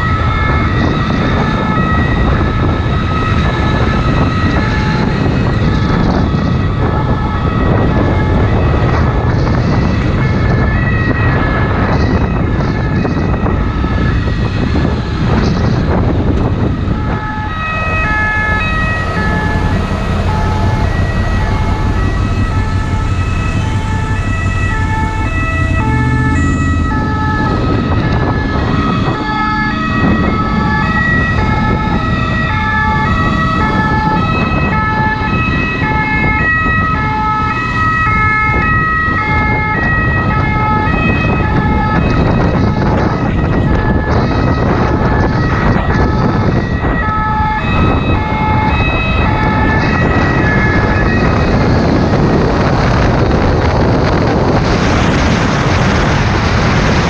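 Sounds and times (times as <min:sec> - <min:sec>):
road and wind noise: 0:00.0 - 0:57.0
two-tone ambulance siren: 0:00.0 - 0:57.0.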